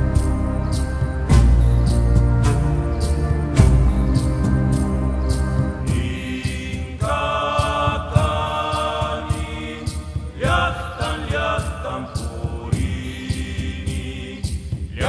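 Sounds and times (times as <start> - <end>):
chanted song with vocals: 0.0 - 15.0
steady percussion beat: 0.0 - 15.0.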